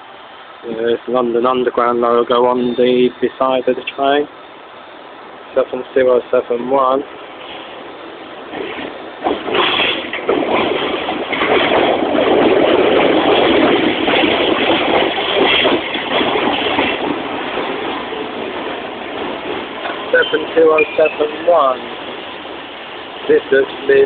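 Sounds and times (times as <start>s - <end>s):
underground train passing: 0.0s - 24.0s.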